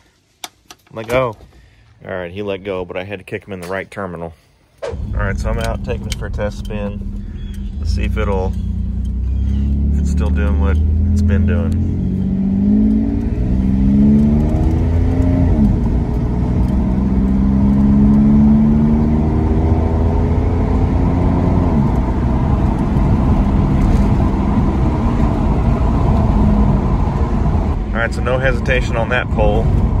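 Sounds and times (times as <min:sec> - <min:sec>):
car engine accelerating: 0:04.8 - 0:30.0.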